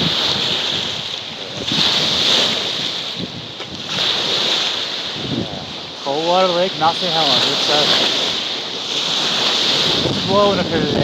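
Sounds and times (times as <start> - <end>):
strong gusty wind: 0.0 - 11.0
waves washing onto shore: 0.0 - 11.0.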